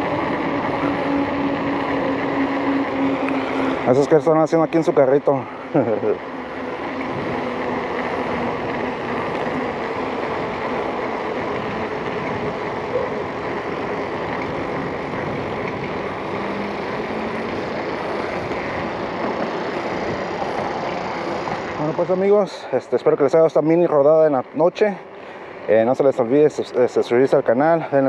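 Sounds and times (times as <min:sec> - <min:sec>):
bike tyre and wind noise: 0:00.0 - 0:28.0.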